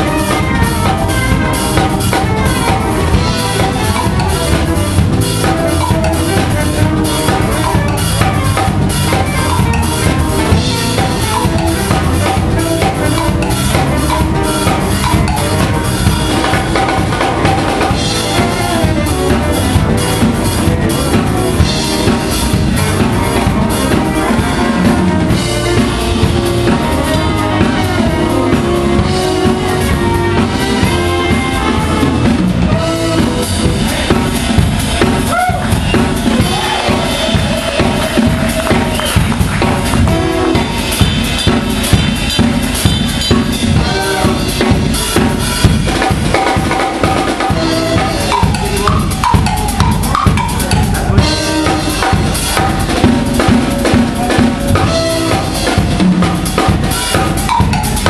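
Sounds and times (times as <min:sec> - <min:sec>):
drum kit played busily: 0:00.0 - 0:58.0
keyboards: 0:00.0 - 0:58.0
live band playing: 0:00.0 - 0:58.0
saxophone: 0:00.0 - 0:58.0.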